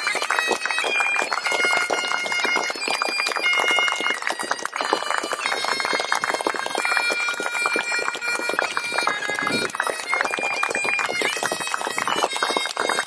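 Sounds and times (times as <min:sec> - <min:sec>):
bagpipe tune: 0:00.0 - 0:13.0
hands clapping: 0:00.0 - 0:13.0.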